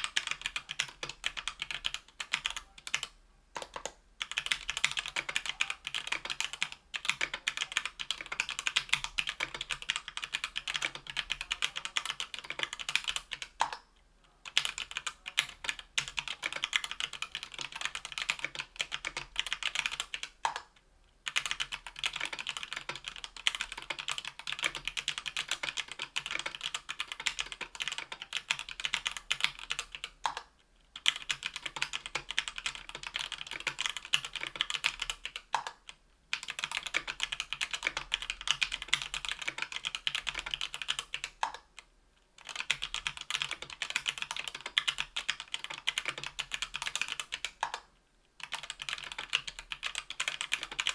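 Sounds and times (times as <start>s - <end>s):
fast typing on mechanical keyboard: 0.0s - 13.8s, 14.5s - 20.6s, 21.2s - 30.4s, 31.0s - 41.7s, 42.4s - 47.8s, 48.4s - 50.9s.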